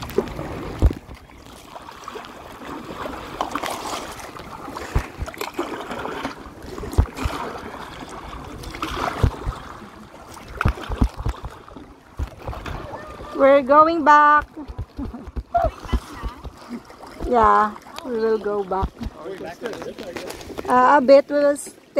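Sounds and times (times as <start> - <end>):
water splashing around kayak: 0.0 - 21.9.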